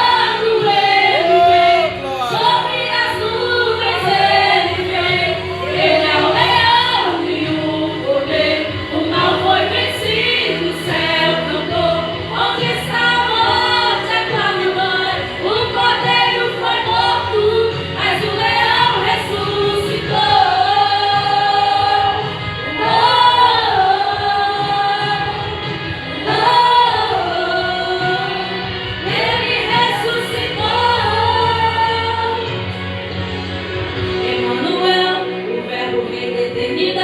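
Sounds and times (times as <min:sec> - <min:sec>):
choir-like sung voices: 0:00.0 - 0:32.7, 0:33.5 - 0:37.0.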